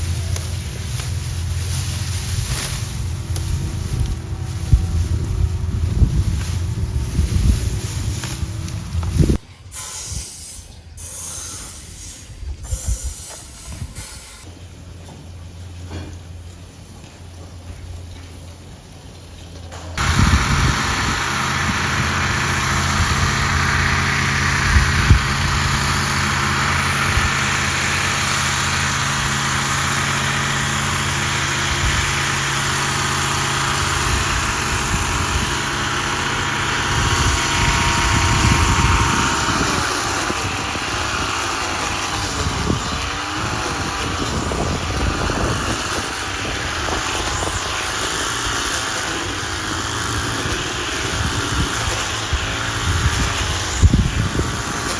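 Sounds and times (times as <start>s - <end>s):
engine running and revving: 0.0s - 9.5s, 19.7s - 54.9s.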